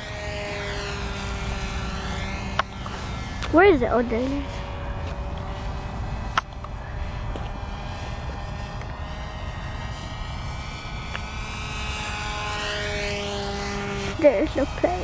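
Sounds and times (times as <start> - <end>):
model airplane propeller whine: 0.0 - 15.0.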